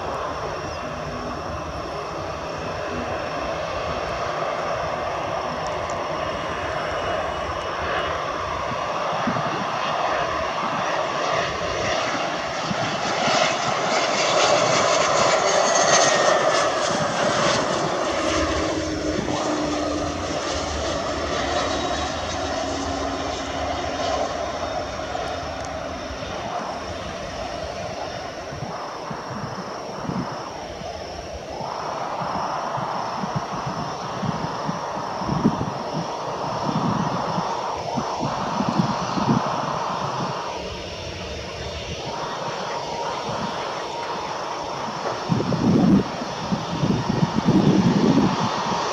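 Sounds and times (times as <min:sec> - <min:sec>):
jet engines passing: 0:00.0 - 0:48.9.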